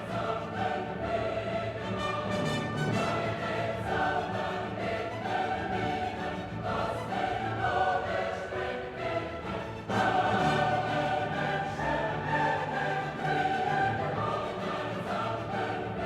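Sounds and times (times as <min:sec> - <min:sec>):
choir singing with orchestra: 0:00.0 - 0:16.0.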